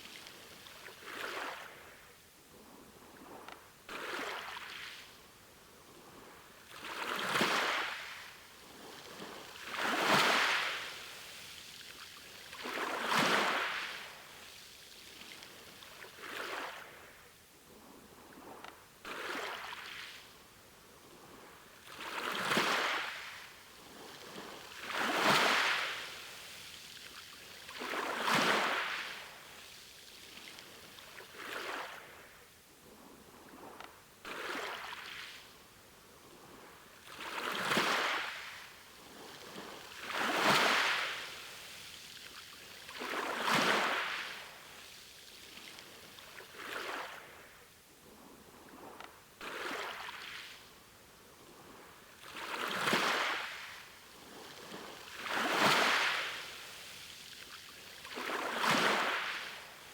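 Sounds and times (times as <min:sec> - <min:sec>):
faint steady water rush: 0:00.0 - 0:59.9
small waves washing ashore: 0:00.0 - 0:59.9.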